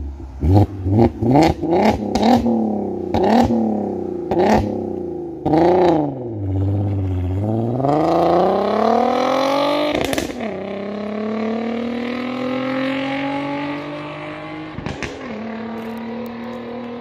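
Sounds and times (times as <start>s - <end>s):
car accelerating through gears: 0.4s - 17.0s.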